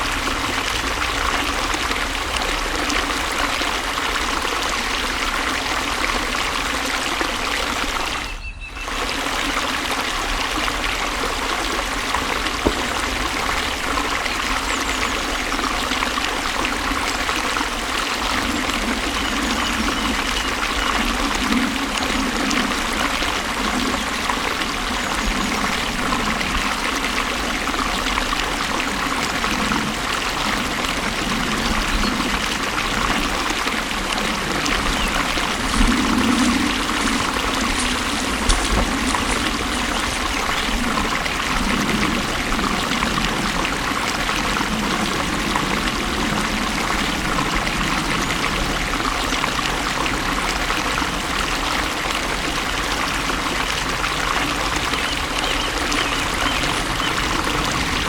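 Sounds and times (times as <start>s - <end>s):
water rushing and trickling: 0.0s - 58.0s.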